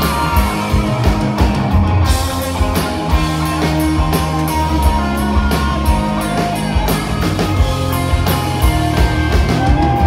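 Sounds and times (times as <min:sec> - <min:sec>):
bass: 0:00.0 - 0:10.0
electric guitars: 0:00.0 - 0:10.0
steady drum beat: 0:00.0 - 0:10.0.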